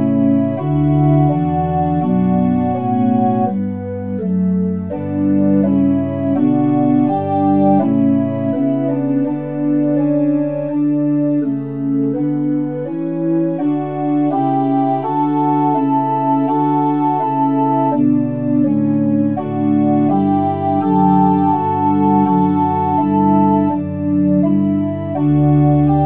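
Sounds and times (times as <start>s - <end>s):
pipe organ playing slow chords: 0.0s - 26.0s.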